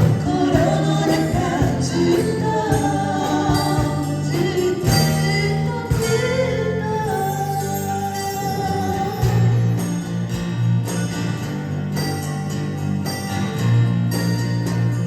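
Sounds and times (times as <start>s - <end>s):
guitar chords: 0.0s - 15.0s
sustained bass notes: 0.0s - 15.0s.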